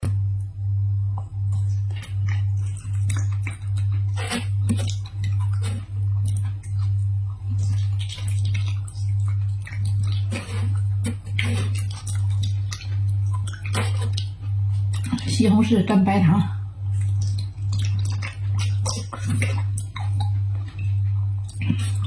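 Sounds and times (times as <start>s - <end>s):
loud low pulsing hum: 0.0s - 22.0s
crunchy chewing of crisp food: 1.3s - 15.4s, 16.8s - 22.0s.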